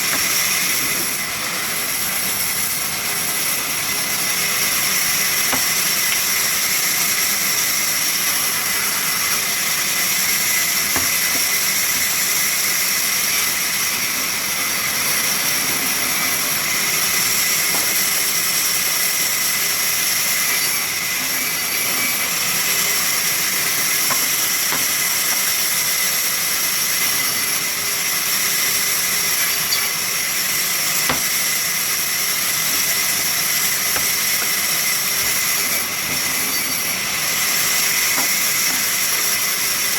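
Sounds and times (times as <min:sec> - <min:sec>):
sawmill saw hissing and whining: 0:00.0 - 0:39.9.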